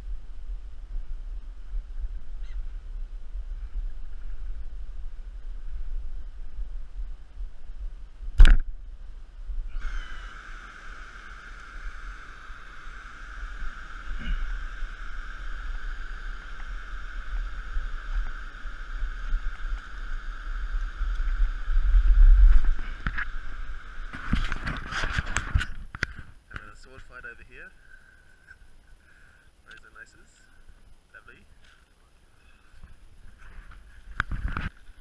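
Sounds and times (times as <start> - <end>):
wind rumble on microphone: 0.0 - 26.6, 32.8 - 35.0.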